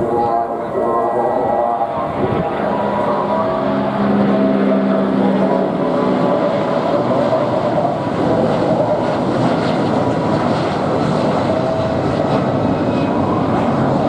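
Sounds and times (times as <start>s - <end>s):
humming engine tones: 0.0s - 14.0s
jet engines roaring: 0.0s - 14.0s.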